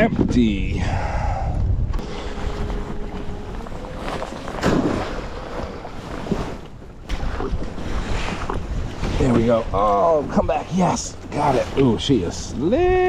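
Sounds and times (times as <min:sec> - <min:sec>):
wind buffeting microphone: 0:00.0 - 0:13.0
water sloshing around kayak: 0:02.0 - 0:12.7
water splashes: 0:02.0 - 0:13.0.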